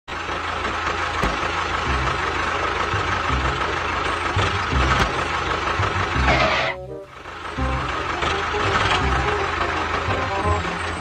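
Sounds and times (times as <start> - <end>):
tractor engine running: 0.1 - 11.0.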